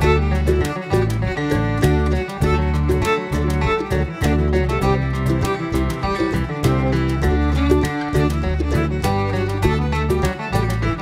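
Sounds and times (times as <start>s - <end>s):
bluegrass tune with fiddle and guitar: 0.0s - 11.0s.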